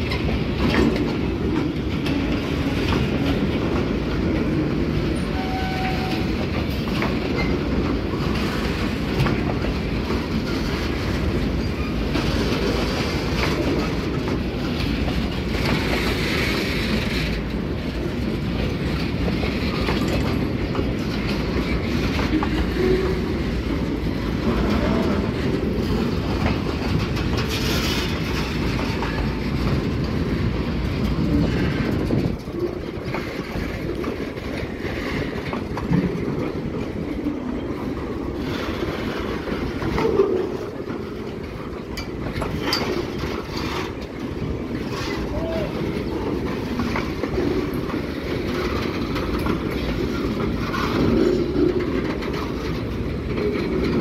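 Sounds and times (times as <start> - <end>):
train wheels rumbling on rails: 0.0 - 54.0
wheels clicking over rail joints: 0.0 - 54.0.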